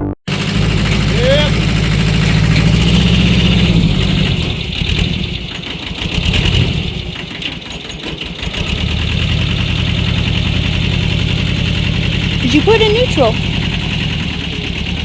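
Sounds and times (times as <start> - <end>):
tractor engine idling: 0.3 - 15.0.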